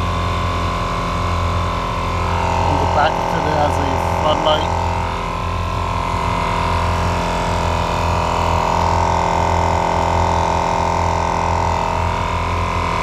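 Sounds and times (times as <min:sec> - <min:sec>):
tire inflator compressor whining: 0:00.0 - 0:13.0.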